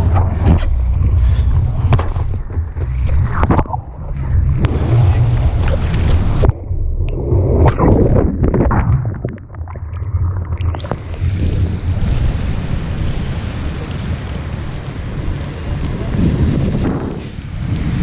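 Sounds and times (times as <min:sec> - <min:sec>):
churning ocean water: 0:00.0 - 0:18.0
wind buffeting microphone: 0:00.0 - 0:18.0.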